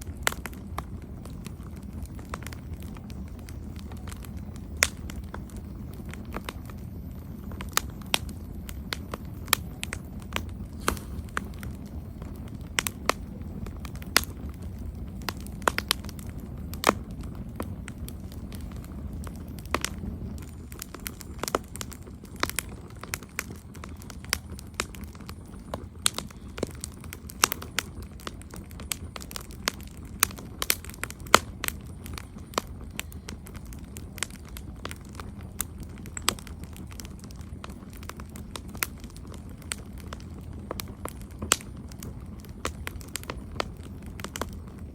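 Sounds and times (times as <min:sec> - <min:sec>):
burning wood crackling: 0:00.0 - 0:44.9
roar of flames: 0:00.0 - 0:44.9.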